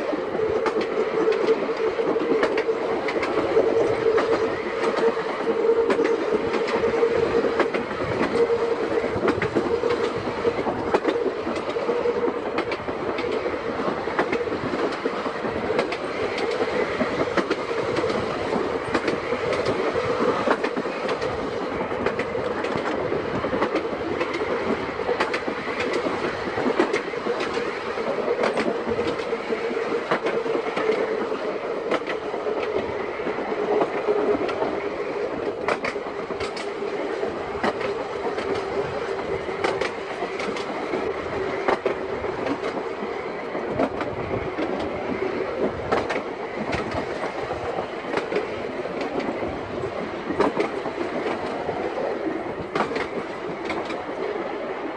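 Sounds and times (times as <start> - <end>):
electric tram whine and rumble: 0.0 - 54.9
wheels clicking over rail joints: 0.0 - 54.9.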